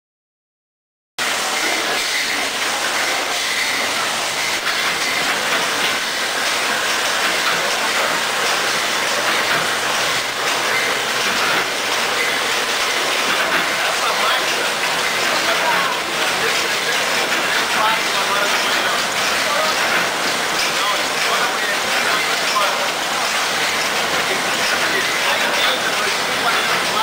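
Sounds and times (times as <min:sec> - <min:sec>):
baling machine hissing and clattering: 0:01.2 - 0:27.0.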